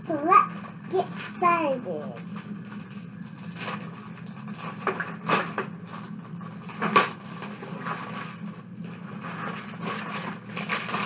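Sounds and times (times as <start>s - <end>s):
low steady hum: 0.0s - 11.0s
plastic packaging rustling: 0.7s - 11.0s.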